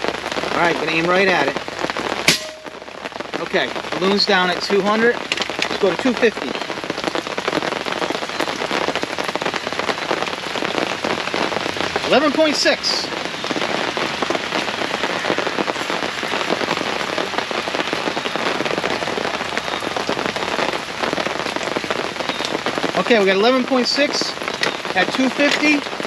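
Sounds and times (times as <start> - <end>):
heavy rain on a canopy: 0.0 - 26.0.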